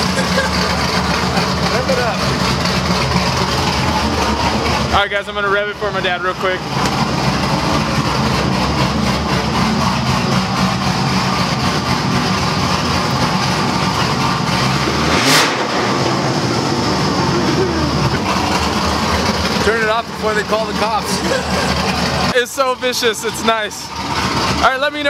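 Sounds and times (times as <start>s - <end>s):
car engine revving: 0.0s - 25.0s
loud car engine idling: 0.0s - 25.0s.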